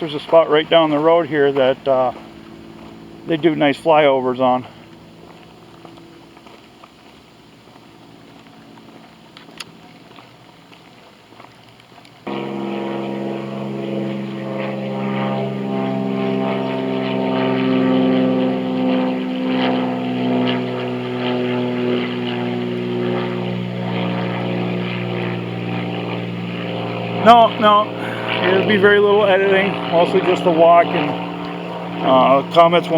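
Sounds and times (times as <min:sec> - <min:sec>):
propeller aircraft engine drone: 0:00.0 - 0:32.9.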